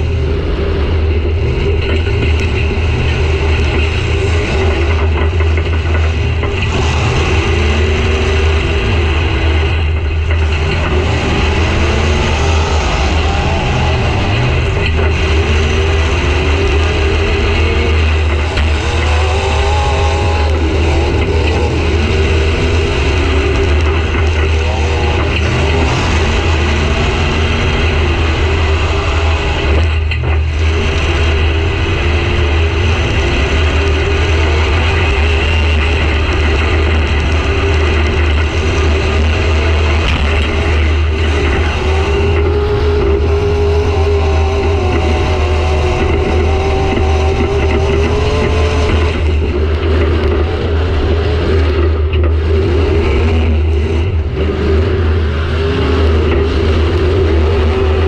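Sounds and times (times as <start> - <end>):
loud car engine revving: 0.0 - 58.0.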